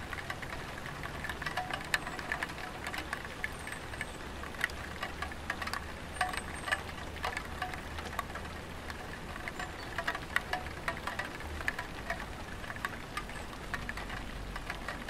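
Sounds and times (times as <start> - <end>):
rain tapping on a tiled roof: 0.0 - 15.0.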